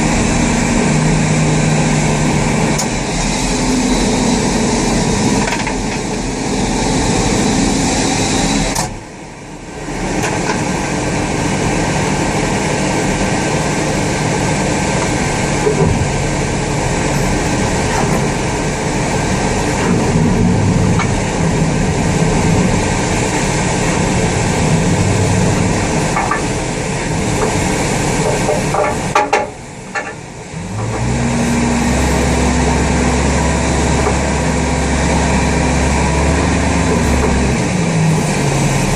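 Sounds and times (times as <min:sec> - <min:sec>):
aircraft and tug engine noise: 0:00.0 - 0:38.9
deeper engine hum: 0:00.0 - 0:38.9.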